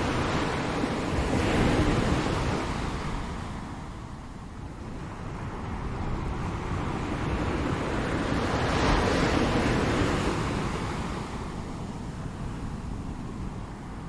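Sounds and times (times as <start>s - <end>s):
ocean waves breaking on shore: 0.0s - 14.0s.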